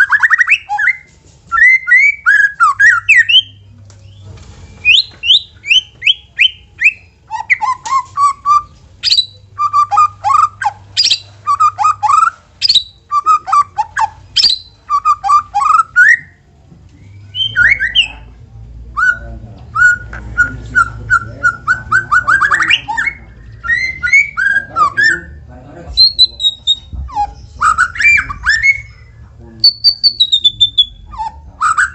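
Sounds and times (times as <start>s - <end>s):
bird singing whistled song: 0.0s - 16.4s, 17.0s - 18.3s, 18.9s - 25.4s, 26.0s - 31.9s.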